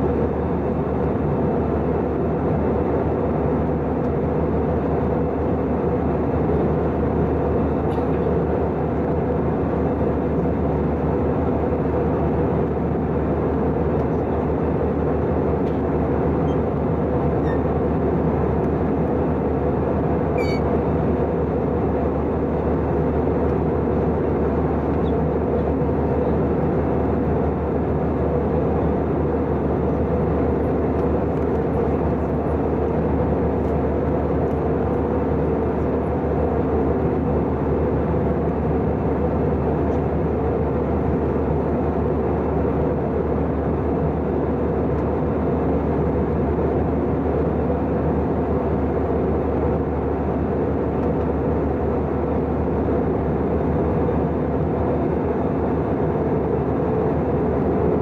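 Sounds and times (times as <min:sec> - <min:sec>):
aircraft cabin engine rush: 0:00.0 - 0:58.0.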